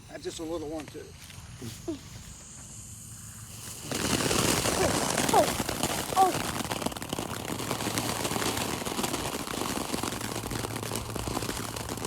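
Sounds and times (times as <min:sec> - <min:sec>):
firework crackling: 0:01.8 - 0:12.0.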